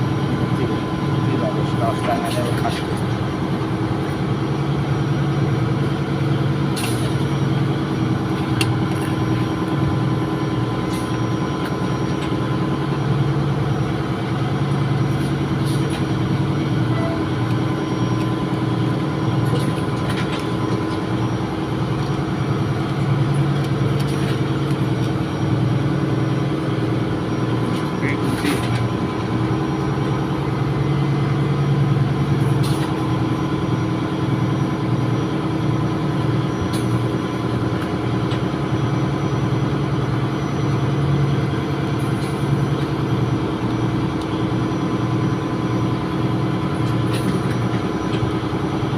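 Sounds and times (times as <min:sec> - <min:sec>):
ship machinery droning: 0:00.0 - 0:48.9.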